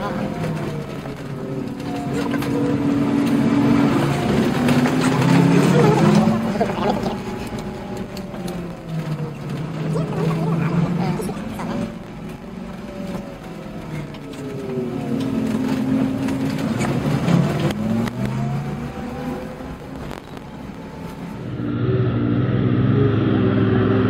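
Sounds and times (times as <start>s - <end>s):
bus engine revving: 0.0s - 24.0s
heavy truck engine: 0.0s - 24.0s.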